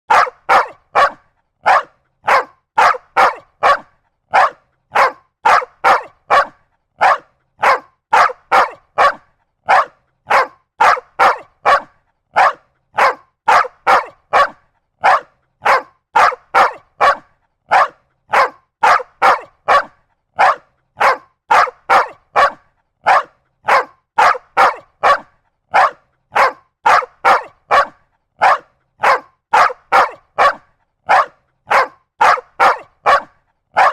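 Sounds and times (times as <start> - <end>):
big dog barking aggressively: 0.1 - 33.9.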